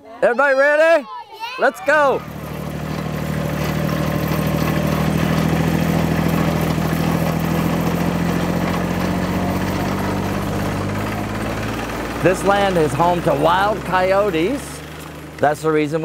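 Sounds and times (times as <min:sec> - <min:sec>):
tractor engine running: 0:01.8 - 0:16.0.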